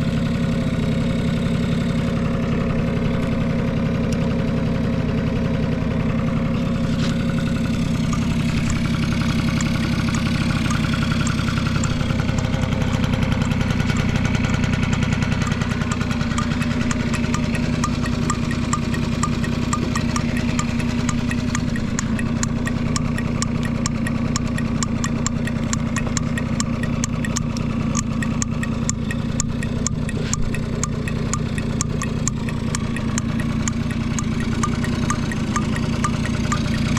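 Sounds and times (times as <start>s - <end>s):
scooter engine idling: 0.0s - 36.9s.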